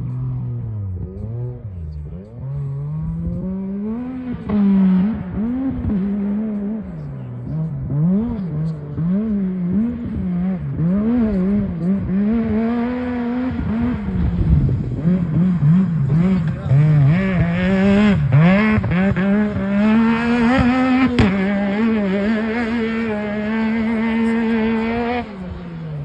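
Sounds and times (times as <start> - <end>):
engine revving hard: 1.0 - 26.0.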